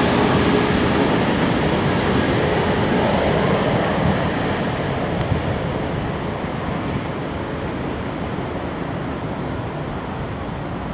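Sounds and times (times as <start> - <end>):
jet engines roaring: 0.0 - 10.9.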